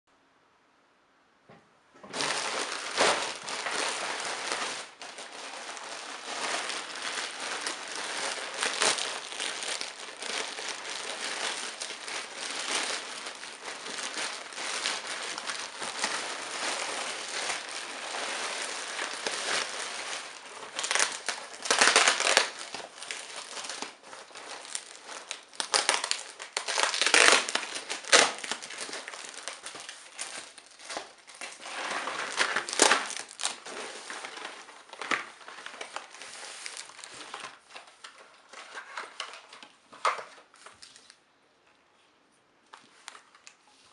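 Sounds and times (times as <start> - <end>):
plastic bag rustling and crackling: 2.0 - 41.2.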